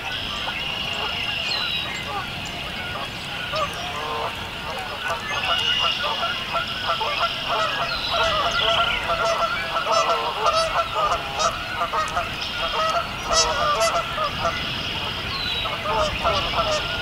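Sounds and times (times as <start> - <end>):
blackbirds calling: 0.0 - 17.0
frogs peeping: 0.0 - 17.0
geese honking: 0.0 - 17.0.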